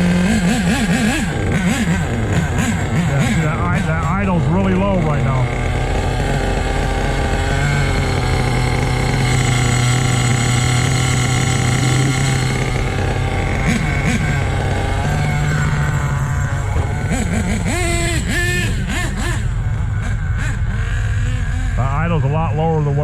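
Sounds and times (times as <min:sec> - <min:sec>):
small nitro engine idling: 0:00.0 - 0:23.0.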